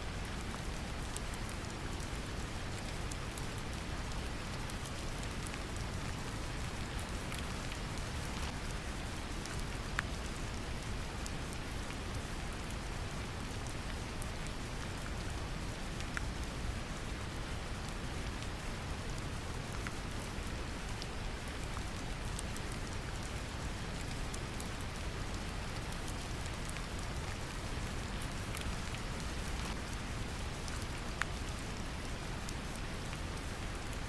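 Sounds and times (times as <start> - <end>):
raindrop ticks: 0.1 - 11.3, 11.9 - 34.0.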